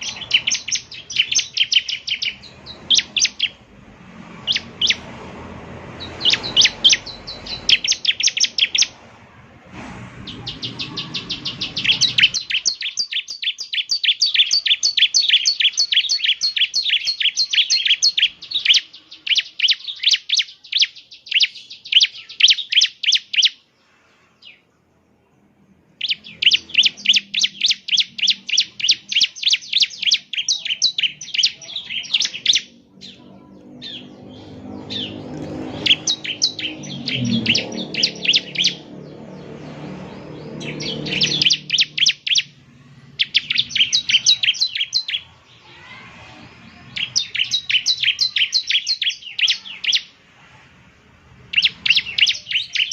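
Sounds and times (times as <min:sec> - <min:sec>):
bird singing rapid high chirps: 0:00.0 - 0:03.7, 0:04.4 - 0:05.2, 0:05.8 - 0:09.0, 0:10.3 - 0:23.7, 0:25.8 - 0:50.2, 0:51.4 - 0:52.9.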